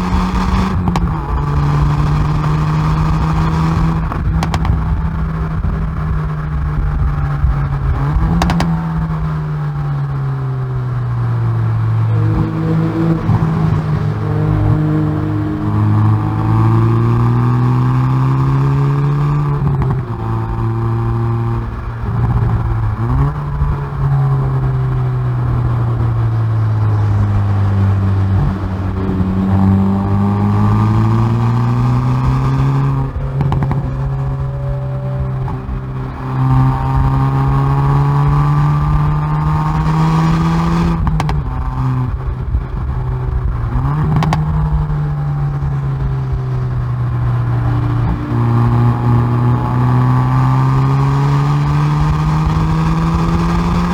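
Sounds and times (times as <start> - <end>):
car engine accelerating hard: 0.0 - 53.9
exhaust crackles: 0.0 - 53.9.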